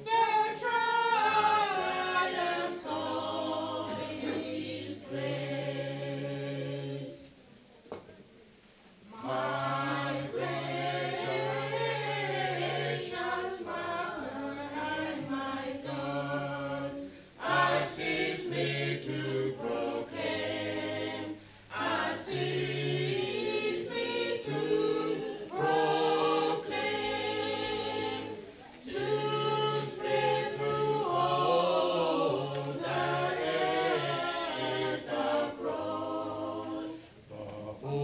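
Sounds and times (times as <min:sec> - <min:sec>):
group singing a hymn: 0:00.0 - 0:07.4, 0:09.0 - 0:38.0.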